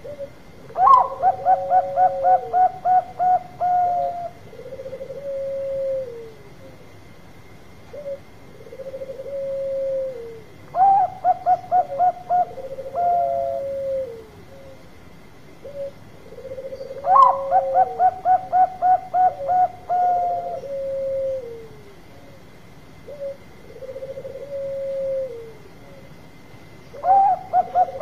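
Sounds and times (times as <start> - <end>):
dove cooing: 0.0 - 7.0, 7.9 - 14.9, 15.6 - 26.2, 26.8 - 28.0.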